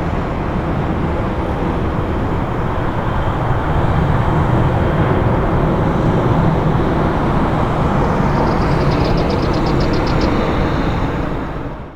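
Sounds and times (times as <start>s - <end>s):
jet engines rumbling: 1.9s - 11.9s.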